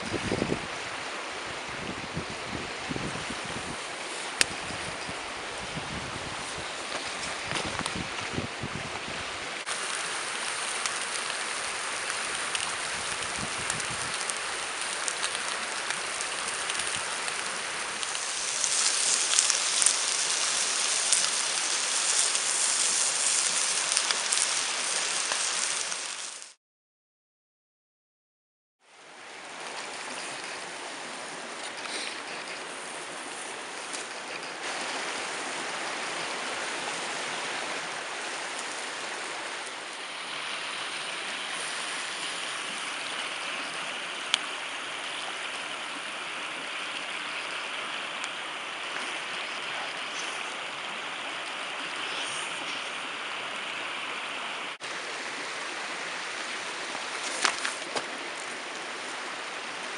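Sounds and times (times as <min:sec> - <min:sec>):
mountain stream rushing: 0:00.0 - 0:26.6, 0:28.9 - 0:59.9.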